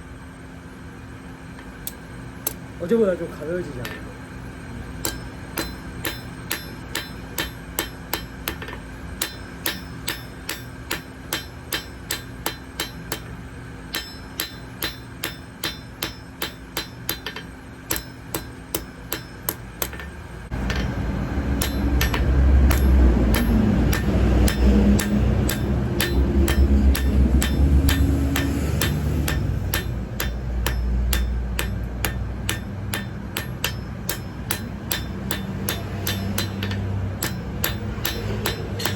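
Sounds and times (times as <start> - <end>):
hammer blows on metal: 5.0 - 38.9.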